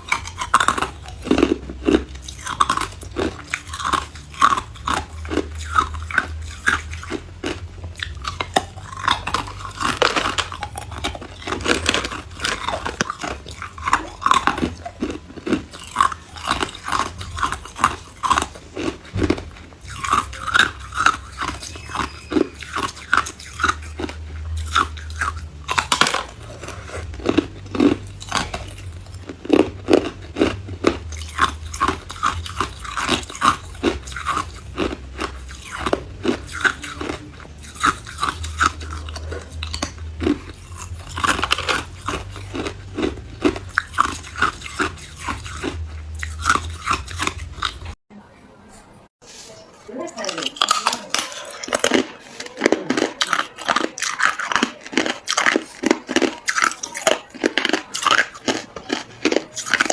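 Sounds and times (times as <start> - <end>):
ice cubes crunching: 0.0 - 48.0, 50.1 - 59.9.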